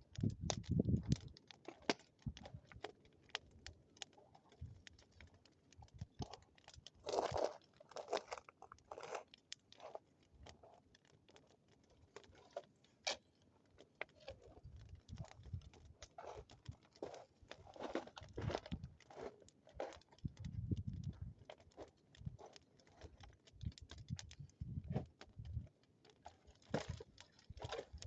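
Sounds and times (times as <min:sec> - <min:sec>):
bonfire crackling: 0:00.0 - 0:28.0
crunching rustles: 0:00.0 - 0:28.0.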